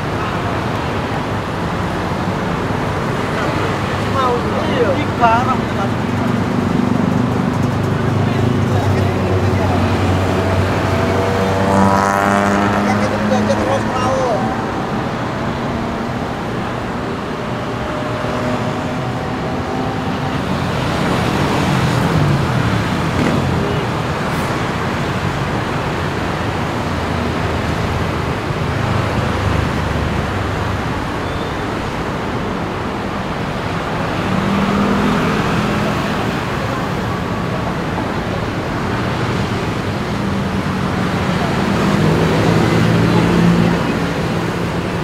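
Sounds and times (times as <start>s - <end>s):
cars passing on street: 0.0s - 45.0s.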